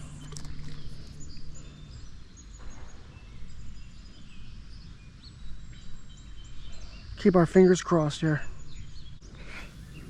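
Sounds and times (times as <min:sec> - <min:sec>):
low outdoor background noise: 0:00.0 - 0:10.0
small birds chirping: 0:00.0 - 0:10.0.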